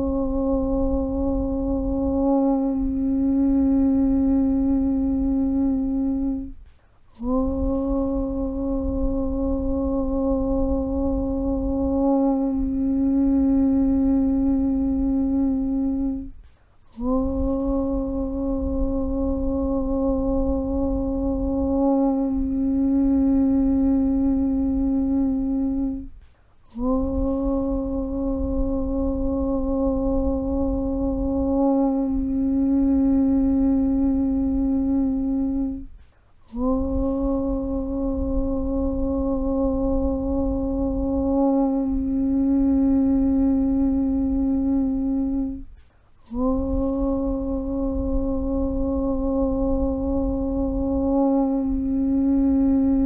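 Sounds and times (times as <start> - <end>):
low rumble: 0.0 - 16.4, 17.0 - 26.2, 26.8 - 53.0
person humming a low steady chant: 0.0 - 53.0.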